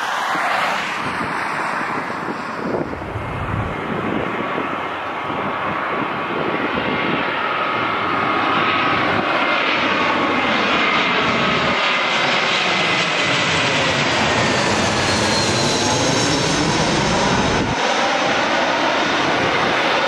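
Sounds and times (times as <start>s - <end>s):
jet airliner passing overhead: 0.0s - 20.0s.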